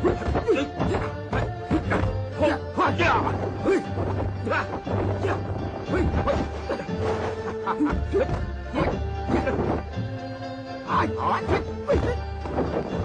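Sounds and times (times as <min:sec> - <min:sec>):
film music with bass line: 0:00.0 - 0:13.0.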